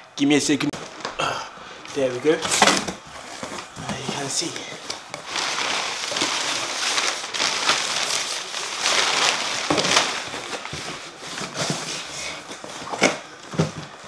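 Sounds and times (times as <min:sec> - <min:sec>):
packing paper rustling and crinkling: 0:00.6 - 0:14.0.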